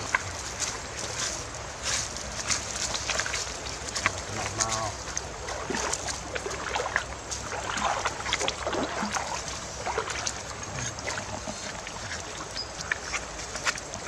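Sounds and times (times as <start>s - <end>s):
stream water trickling over stones: 0.0s - 14.0s.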